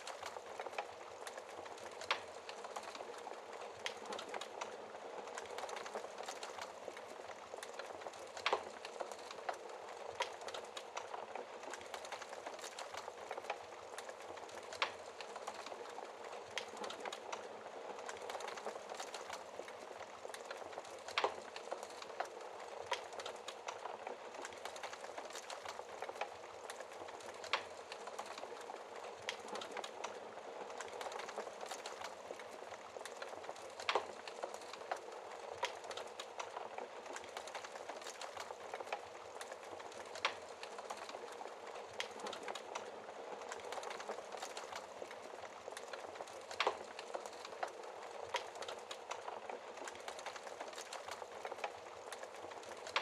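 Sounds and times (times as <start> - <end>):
fire crackling: 0.0 - 53.0
fire hissing flames: 0.0 - 53.0
wood fire popping: 0.0 - 53.0.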